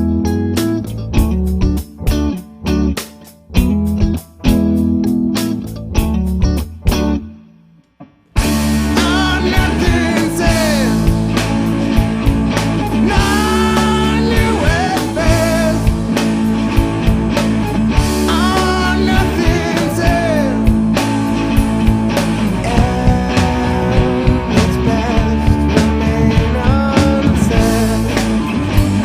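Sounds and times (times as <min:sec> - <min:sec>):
rock band music: 0:00.0 - 0:29.0.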